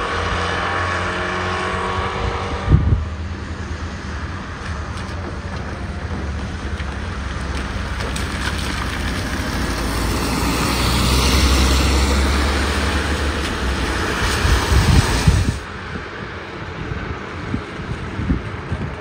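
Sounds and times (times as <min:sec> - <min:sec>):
vehicle engine passing: 0:00.0 - 0:18.3
wind buffeting microphone: 0:01.8 - 0:19.0.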